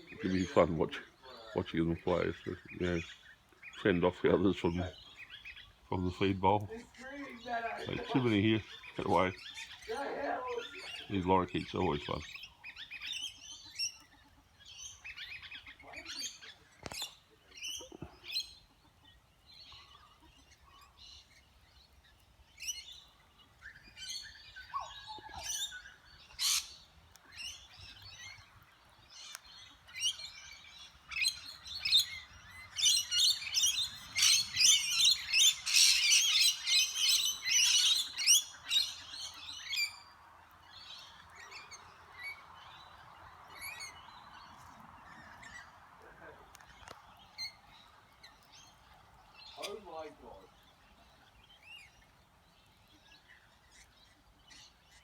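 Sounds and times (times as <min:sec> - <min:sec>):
lorikeets chirping and squawking: 0:00.0 - 0:55.0.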